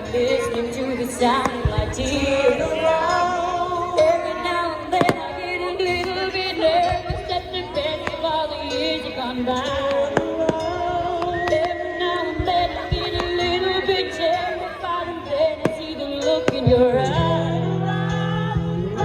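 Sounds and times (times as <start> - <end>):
pop song with singing: 0.0 - 19.0.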